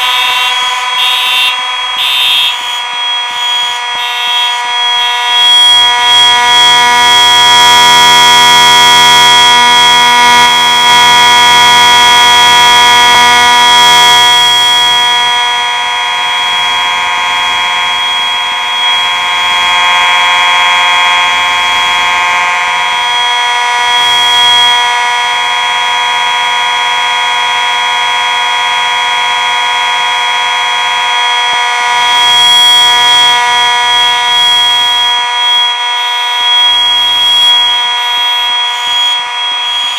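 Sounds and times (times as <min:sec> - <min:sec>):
fire alarm horns steady tone: 0:00.0 - 0:39.9.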